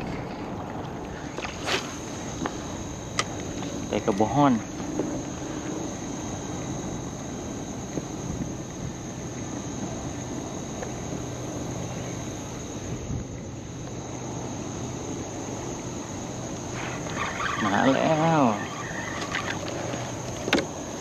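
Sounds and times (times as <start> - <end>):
choppy water: 0.0 - 21.0
wind: 0.0 - 21.0.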